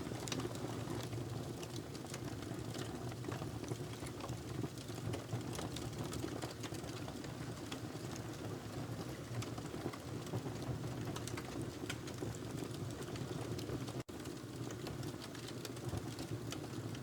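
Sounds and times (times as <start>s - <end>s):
fire crackling and popping: 0.1s - 17.0s.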